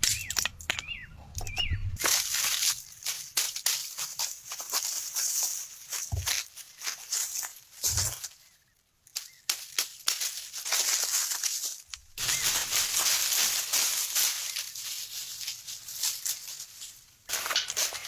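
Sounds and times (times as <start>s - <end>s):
dry leaves and twigs crunching: 0.0s - 18.0s.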